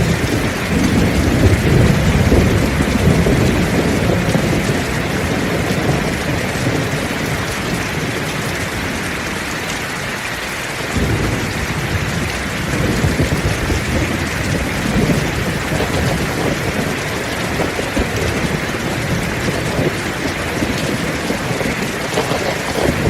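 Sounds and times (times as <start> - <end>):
heavy rain pouring: 0.0 - 23.0
thunder rumbling: 0.0 - 23.0.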